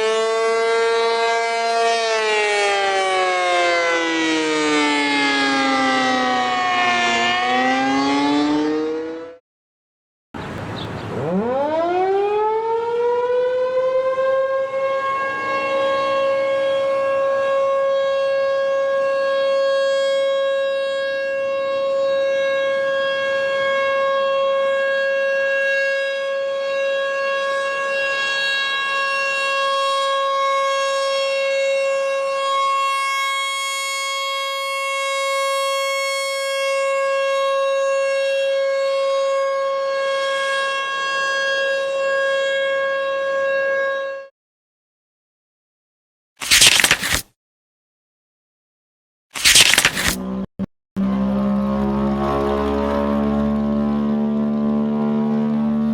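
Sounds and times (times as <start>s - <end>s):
siren rising to steady tone: 0.0s - 9.4s, 11.1s - 44.3s, 50.2s - 55.9s.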